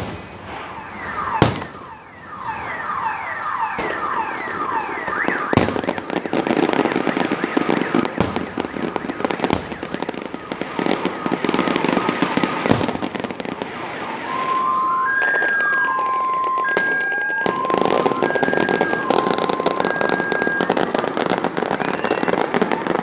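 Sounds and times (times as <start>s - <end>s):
fireworks crackling and banging: 0.0s - 23.0s
two-tone alarm: 0.9s - 13.0s, 13.8s - 21.4s.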